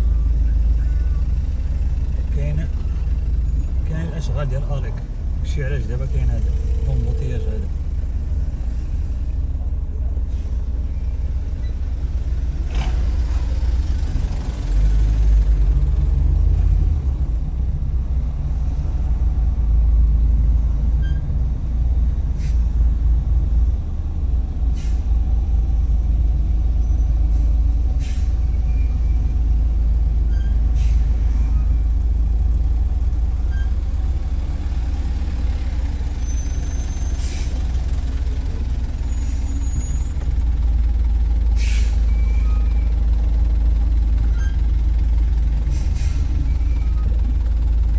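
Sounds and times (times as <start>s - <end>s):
traffic rumble heard inside car: 0.0s - 47.9s.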